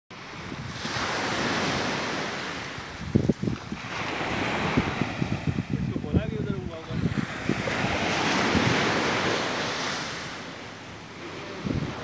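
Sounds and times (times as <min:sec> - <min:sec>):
waves washing on a beach: 0:00.1 - 0:12.0
wind on microphone: 0:00.1 - 0:12.0.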